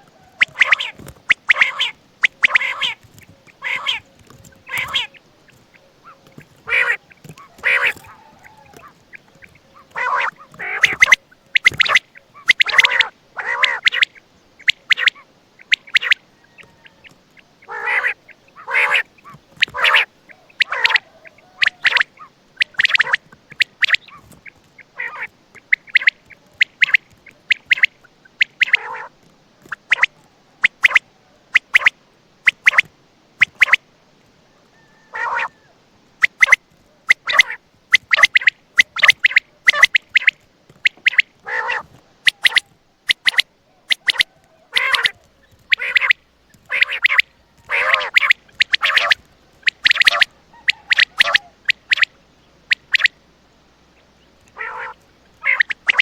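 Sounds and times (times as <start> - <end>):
quail calling: 0.0 - 33.8, 34.5 - 56.0.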